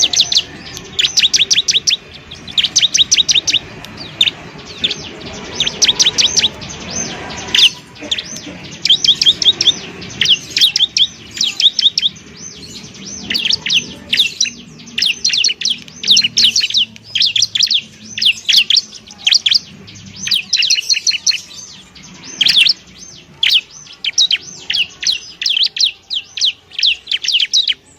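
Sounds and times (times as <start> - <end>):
bird singing sweeping chirps: 0.0 - 27.9.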